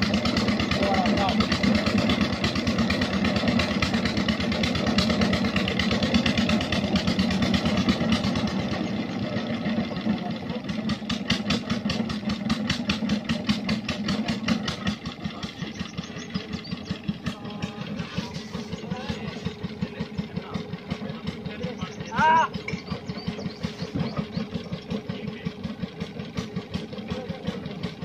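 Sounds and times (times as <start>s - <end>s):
stationary engine running: 0.0s - 28.0s.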